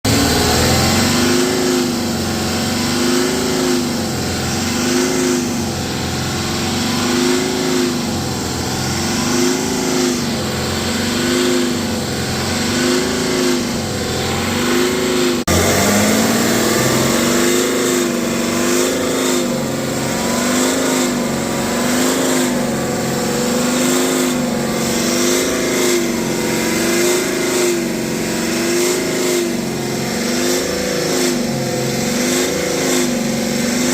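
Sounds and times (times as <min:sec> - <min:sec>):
diesel engine revving: 0:00.0 - 0:33.9
loud resonating vibration noise: 0:00.1 - 0:33.9.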